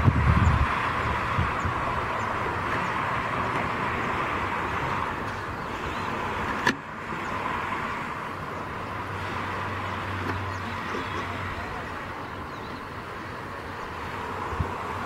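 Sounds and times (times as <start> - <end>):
distant vehicles rushing: 0.0 - 15.0.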